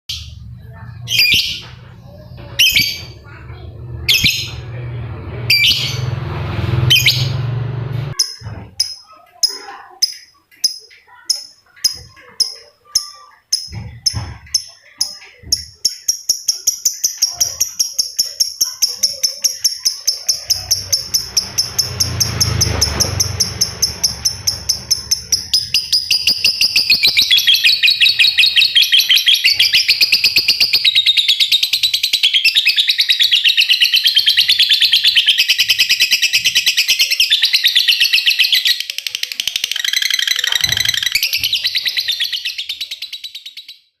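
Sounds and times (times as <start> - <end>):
songbird chattering: 8.1 - 43.9.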